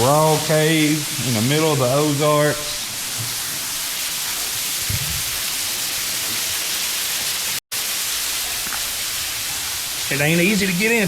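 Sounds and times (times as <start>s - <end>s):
water falling in a cave: 0.0s - 11.0s.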